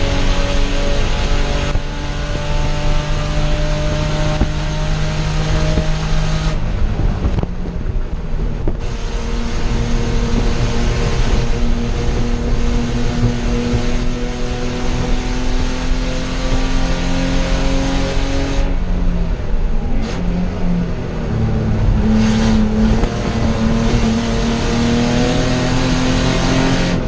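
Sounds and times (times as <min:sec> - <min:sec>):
race car engine from cockpit: 0:00.0 - 0:27.0.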